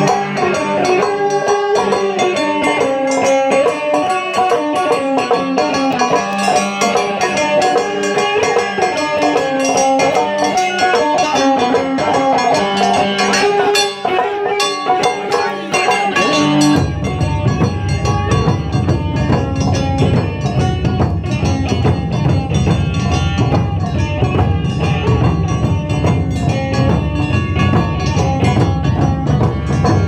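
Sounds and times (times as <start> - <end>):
shamisen: 0.0 - 30.0
taiko drums driving rhythm: 0.0 - 30.0.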